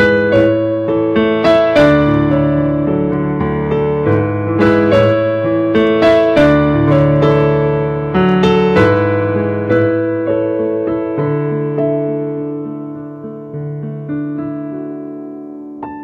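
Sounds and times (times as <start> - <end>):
piano chords and melody: 0.0 - 16.0.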